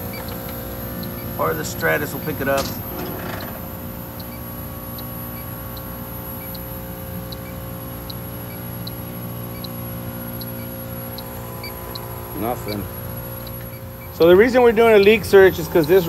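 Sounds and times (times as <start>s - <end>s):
compressors humming: 0.0s - 16.0s
leak detector ticking: 0.0s - 16.0s.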